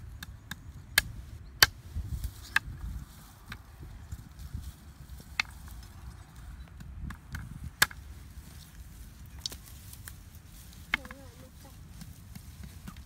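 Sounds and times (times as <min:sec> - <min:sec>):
wooden sticks clicking and knocking: 0:00.1 - 0:04.2, 0:05.2 - 0:13.0.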